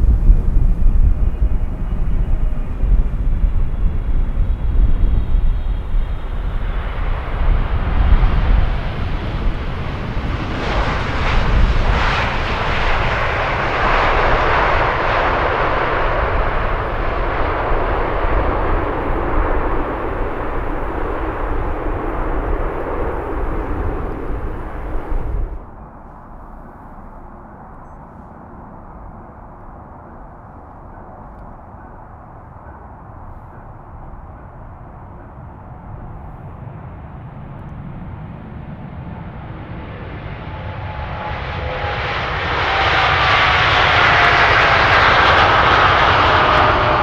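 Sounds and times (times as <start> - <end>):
deep low rumble: 0.0 - 38.6
jet airliner engines passing: 0.0 - 47.0.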